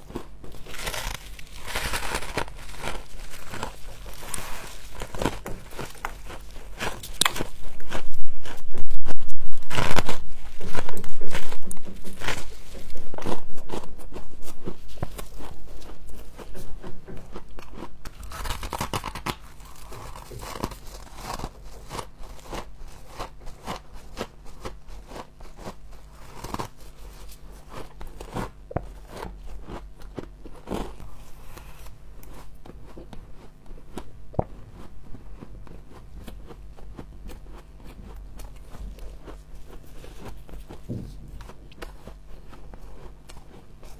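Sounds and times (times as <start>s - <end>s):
frost being crunched and chewed: 0.0s - 43.9s.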